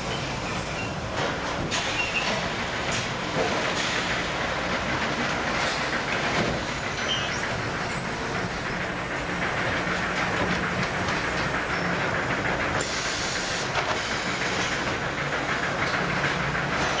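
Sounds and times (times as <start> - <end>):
machine clatter and hum: 0.0 - 17.0.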